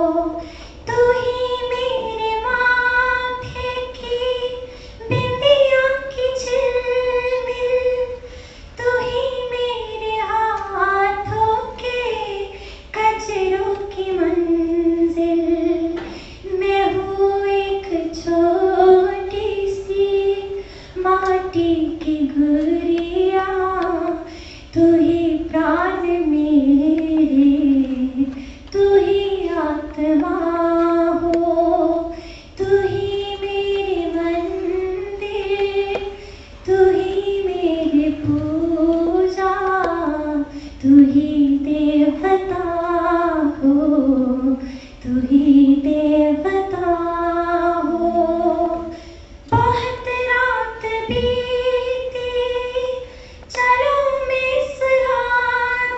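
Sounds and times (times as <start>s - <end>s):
girl singing into microphone: 0.0s - 55.9s.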